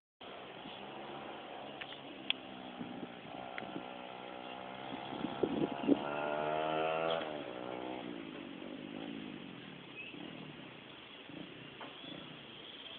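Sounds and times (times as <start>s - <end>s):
distant pit bike engine revving: 0.2s - 12.9s.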